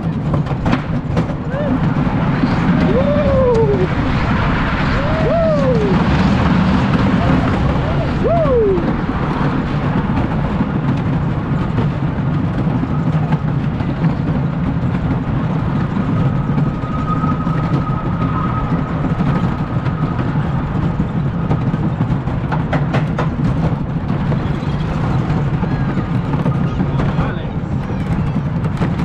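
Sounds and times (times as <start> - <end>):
roller coaster wheels rumbling: 0.0 - 29.0.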